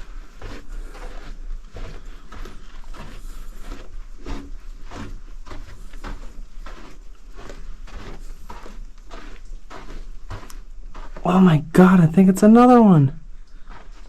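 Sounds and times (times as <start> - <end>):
footsteps on tunnel floor: 0.0 - 14.0.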